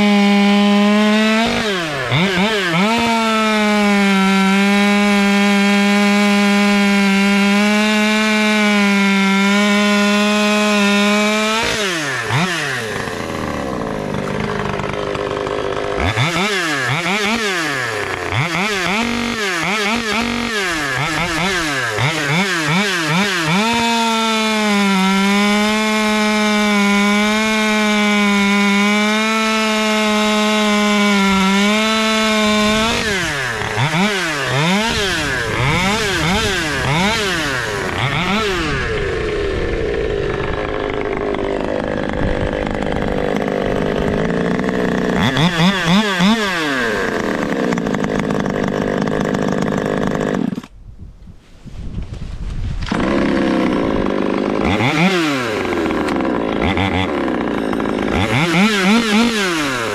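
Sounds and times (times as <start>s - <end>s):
chainsaw cutting wood: 0.0s - 50.8s, 52.6s - 59.9s
chainsaw revving: 0.0s - 50.8s, 52.8s - 59.9s.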